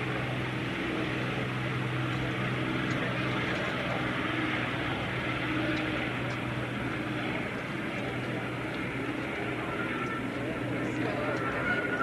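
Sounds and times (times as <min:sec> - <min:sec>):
distant propeller plane engine drone: 0:00.0 - 0:12.0.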